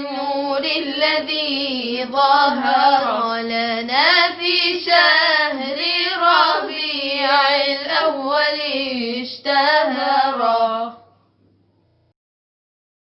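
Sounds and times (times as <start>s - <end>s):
woman singing a devotional hymn: 0.0s - 11.0s.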